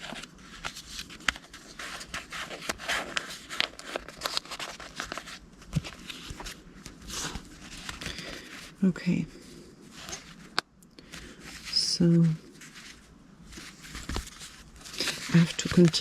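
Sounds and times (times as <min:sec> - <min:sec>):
paper cards rustling and shuffling: 0:00.0 - 0:16.0.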